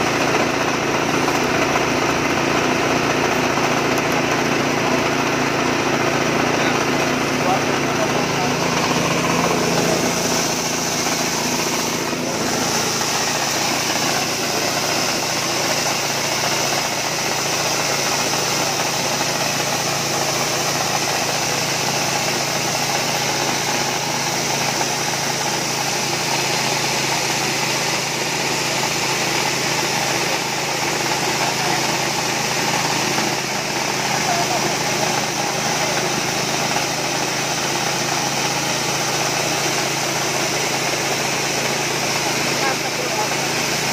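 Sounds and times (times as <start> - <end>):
small petrol engine running: 0.0 - 43.9.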